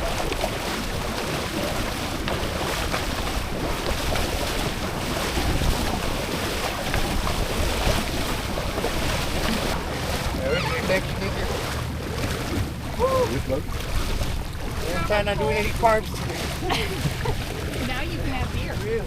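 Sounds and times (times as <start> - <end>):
water rushing and splashing: 0.0 - 19.0
wind buffeting microphone: 0.0 - 19.0.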